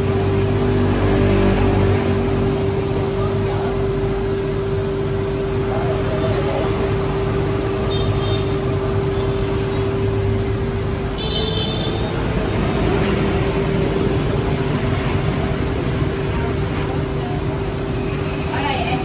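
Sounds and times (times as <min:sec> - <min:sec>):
street traffic hum: 0:00.0 - 0:19.0.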